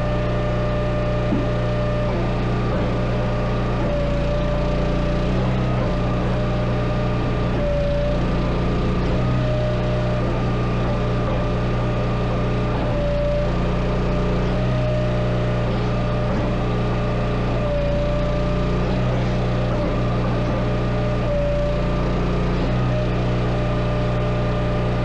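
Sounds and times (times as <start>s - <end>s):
engine running: 0.0s - 25.0s
whine: 0.0s - 25.0s.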